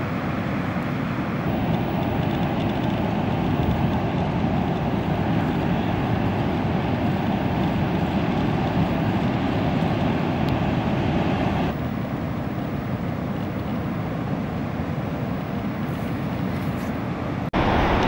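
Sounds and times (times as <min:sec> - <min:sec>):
heavy ocean surf breaking: 0:00.0 - 0:18.0.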